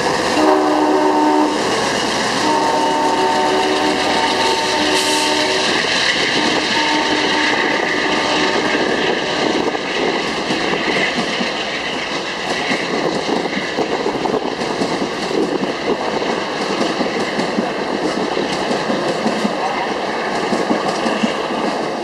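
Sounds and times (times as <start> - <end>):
passenger train passing: 0.0 - 22.0
wheels clickety-clacking on rails: 0.0 - 22.0.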